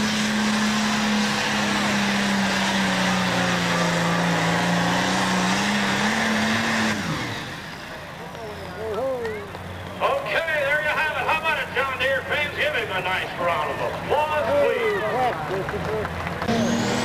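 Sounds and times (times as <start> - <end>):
tractor diesel engine at full power: 0.0 - 17.0.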